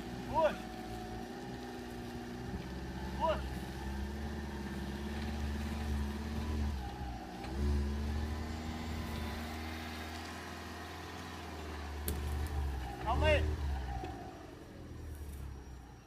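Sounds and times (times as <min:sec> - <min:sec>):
car engine revving under load: 0:00.0 - 0:16.0.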